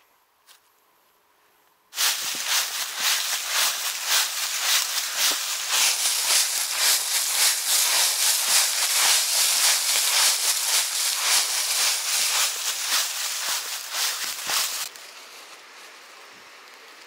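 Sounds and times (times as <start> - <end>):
footsteps crunching dry leaves: 2.0 - 15.9.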